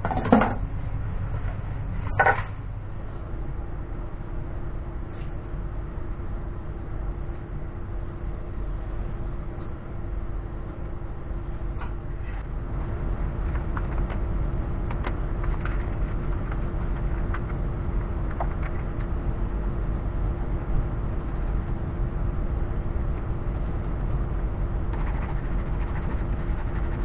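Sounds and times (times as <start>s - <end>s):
low hum and rumble: 0.0s - 27.0s.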